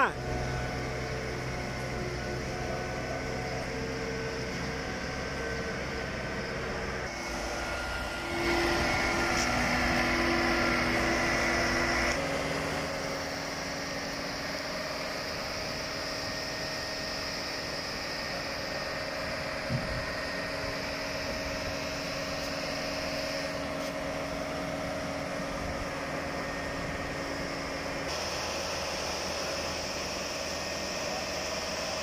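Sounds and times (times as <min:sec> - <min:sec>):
boat hoist engine and hydraulics: 0:00.0 - 0:32.0
high whine: 0:00.0 - 0:32.0.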